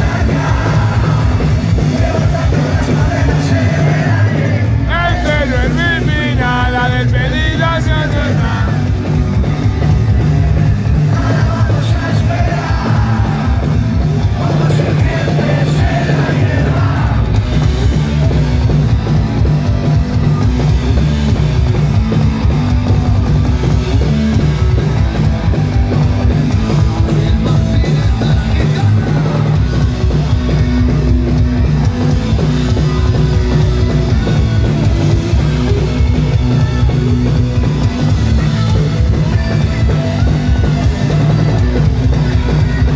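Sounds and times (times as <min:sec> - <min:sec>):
punk rock band playing: 0:00.0 - 0:42.9.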